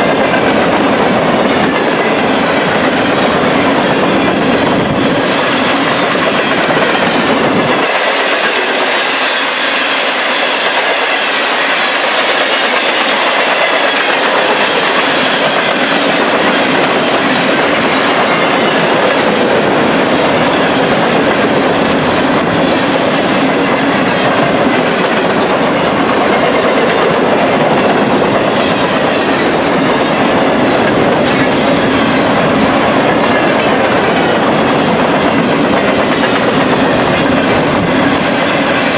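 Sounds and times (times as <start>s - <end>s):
train cars rolling on track: 0.0s - 38.9s.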